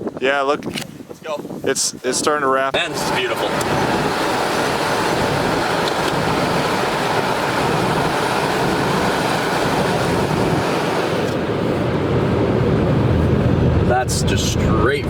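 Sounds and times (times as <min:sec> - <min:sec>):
road and wind noise from car: 0:00.0 - 0:15.0.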